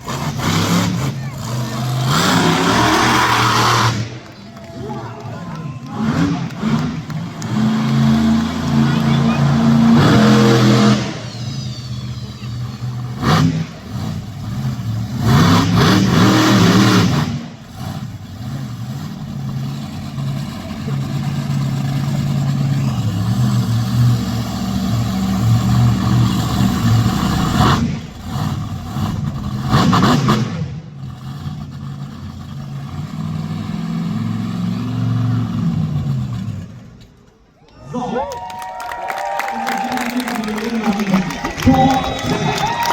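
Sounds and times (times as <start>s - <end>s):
truck engine revving: 0.0s - 37.4s, 40.0s - 42.9s.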